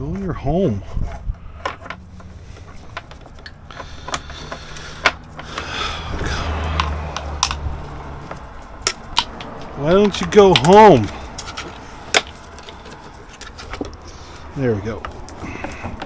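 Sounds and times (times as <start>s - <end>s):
metal parts clicking and scraping: 0.0s - 16.0s.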